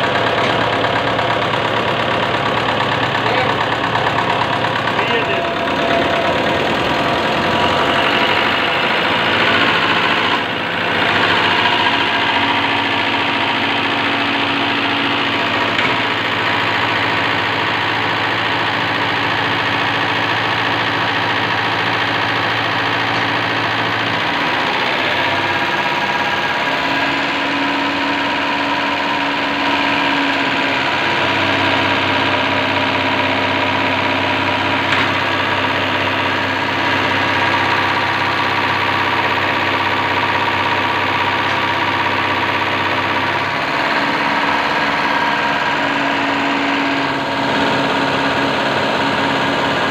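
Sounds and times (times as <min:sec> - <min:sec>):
machinery mechanical hum: 0:00.0 - 0:49.9.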